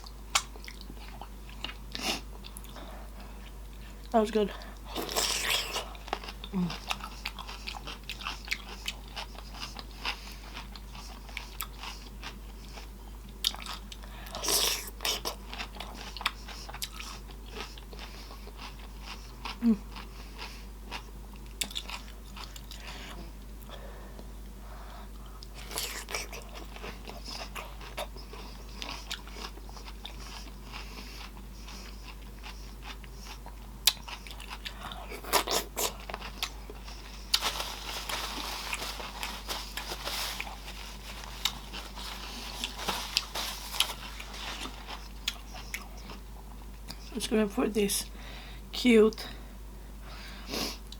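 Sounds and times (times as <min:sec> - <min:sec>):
chewing and lip-smacking: 0:00.3 - 0:22.9, 0:25.2 - 0:47.1.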